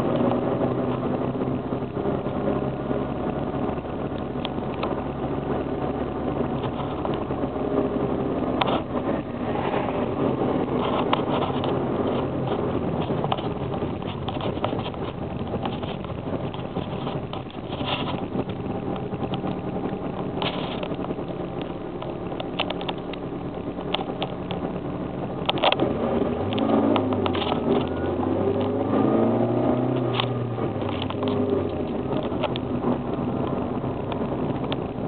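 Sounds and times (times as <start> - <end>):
car engine driving: 0.0 - 35.0
road noise: 0.0 - 35.0.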